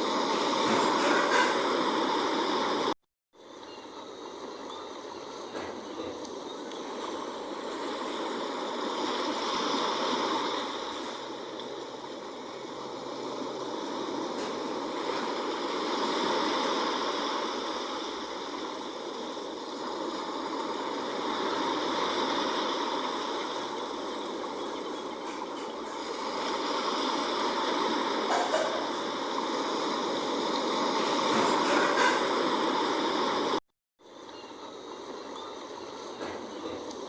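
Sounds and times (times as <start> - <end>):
sea waves washing in: 0.0 - 37.0.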